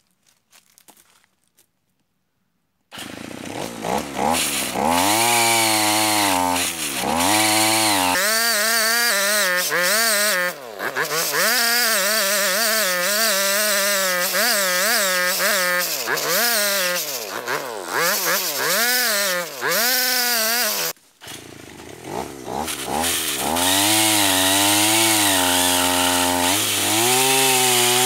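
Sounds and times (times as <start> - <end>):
chainsaw engine revving: 2.9 - 28.0.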